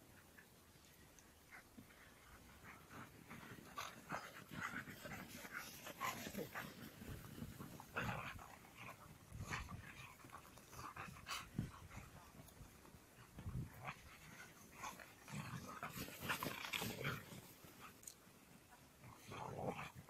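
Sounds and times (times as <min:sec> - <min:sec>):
dogs scuffling in snow: 0:00.1 - 0:20.0
dogs panting: 0:00.2 - 0:18.0.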